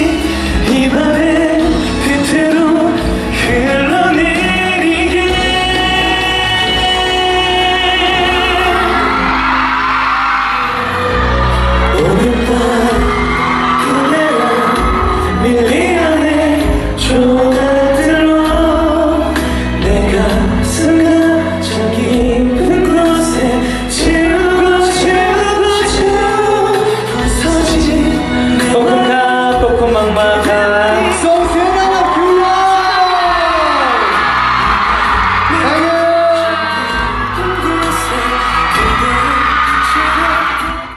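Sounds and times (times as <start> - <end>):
person singing: 0.0 - 40.9
pop backing track with bass and drums: 0.0 - 40.9.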